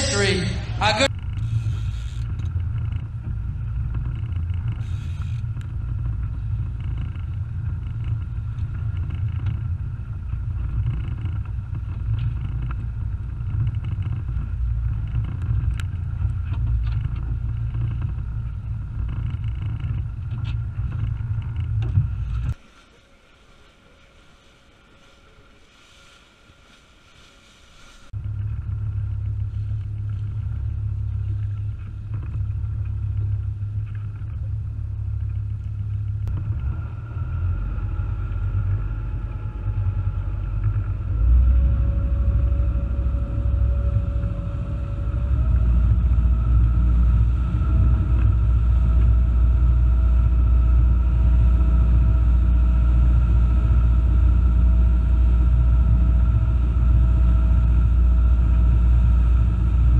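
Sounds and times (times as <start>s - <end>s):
motor boat engine: 0.0s - 22.6s, 28.2s - 59.9s.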